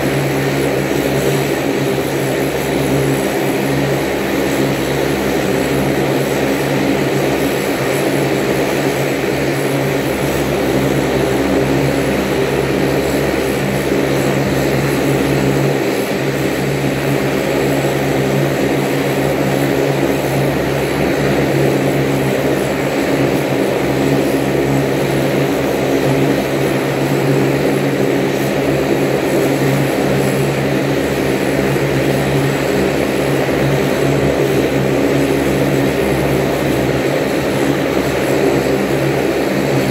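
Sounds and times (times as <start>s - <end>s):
propeller drone: 0.0s - 39.9s.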